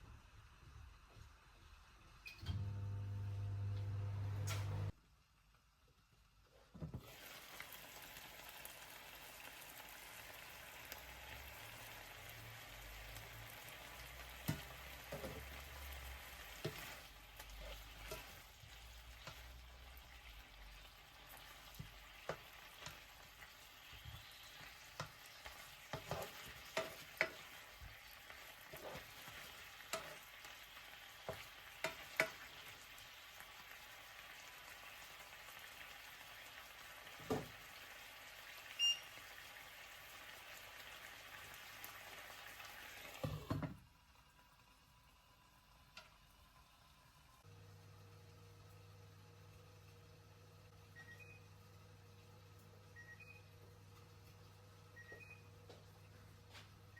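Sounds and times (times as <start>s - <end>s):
chicken sizzling in a pan: 0.0s - 50.5s.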